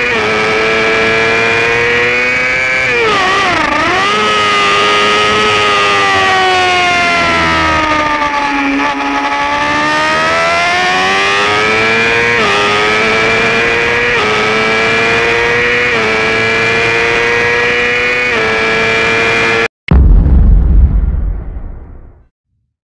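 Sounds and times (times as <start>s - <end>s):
motorcycle engine accelerating: 0.0s - 21.7s.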